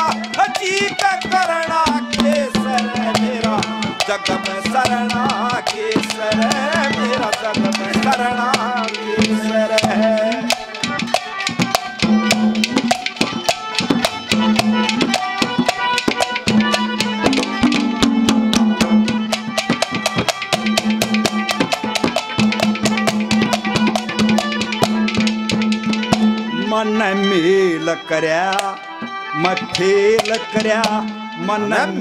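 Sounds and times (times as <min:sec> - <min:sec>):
hand drum fast rhythm: 0:00.0 - 0:26.5, 0:29.4 - 0:31.2
sustained melody line: 0:00.0 - 0:32.0.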